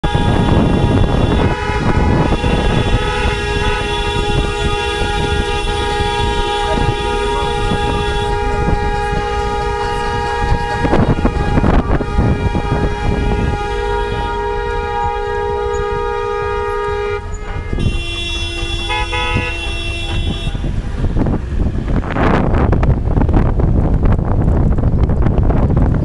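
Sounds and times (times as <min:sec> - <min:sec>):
car horns honking: 0:00.0 - 0:21.4
road noise: 0:00.0 - 0:26.0
wind buffeting: 0:00.0 - 0:26.0.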